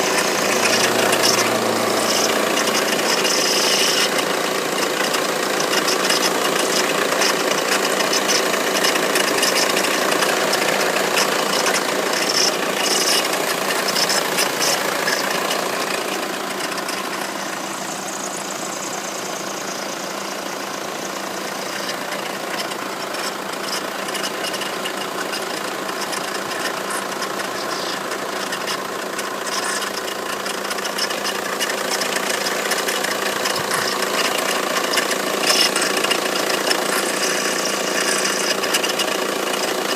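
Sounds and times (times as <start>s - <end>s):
diesel engine idling: 0.0s - 39.9s
rattle and ticking from engine: 0.0s - 39.9s.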